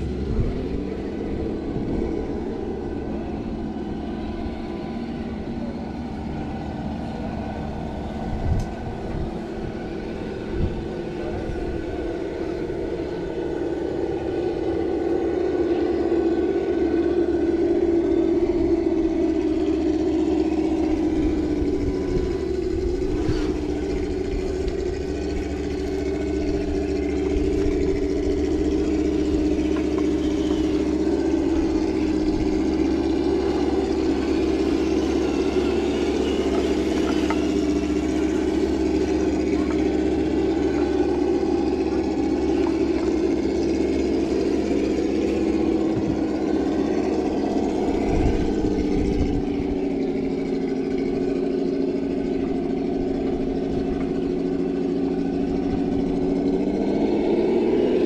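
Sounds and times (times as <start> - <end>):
electric motor and gearbox whining: 0.0 - 58.0.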